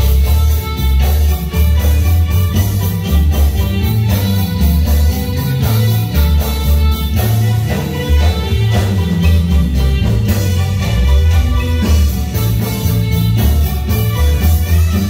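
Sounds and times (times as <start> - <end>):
marimba band dance music: 0.0 - 15.0.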